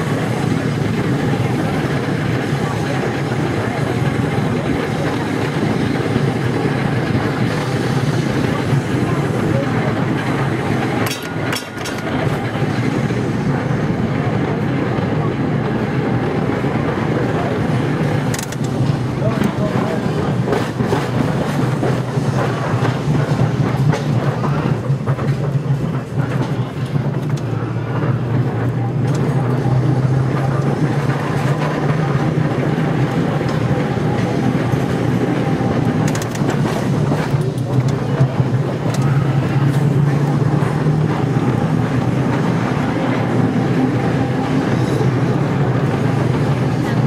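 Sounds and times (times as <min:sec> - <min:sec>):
steel wheels clattering on rails: 0:00.0 - 0:47.0
tram humming: 0:00.0 - 0:47.0.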